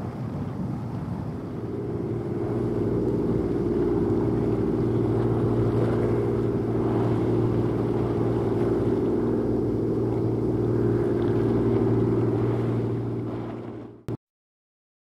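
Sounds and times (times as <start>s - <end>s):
engine drone: 1.1s - 14.2s.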